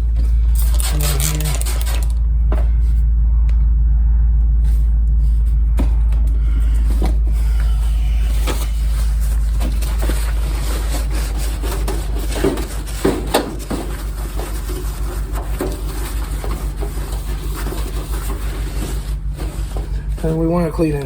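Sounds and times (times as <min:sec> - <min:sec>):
rubbing and scraping on metal: 0:00.0 - 0:03.1, 0:04.7 - 0:21.0
loud low hum: 0:00.0 - 0:21.0.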